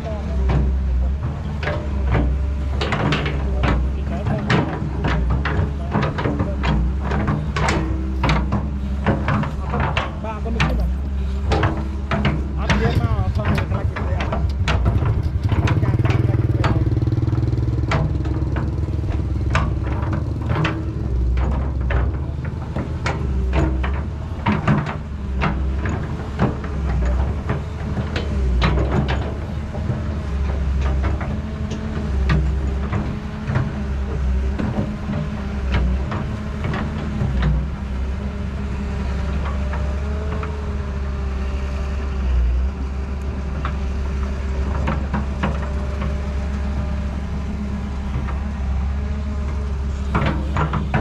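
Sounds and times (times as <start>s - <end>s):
excavator engine running: 0.0s - 51.0s
excavator knocks and clanks: 0.0s - 51.0s.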